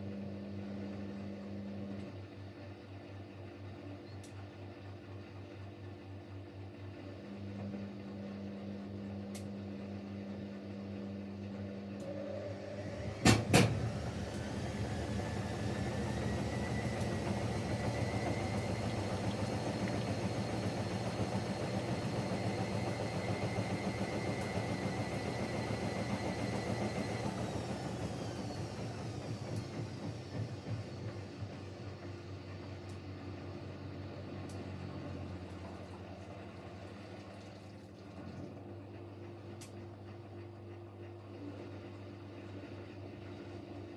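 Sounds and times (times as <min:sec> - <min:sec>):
washing machine spinning: 0:07.2 - 0:43.9.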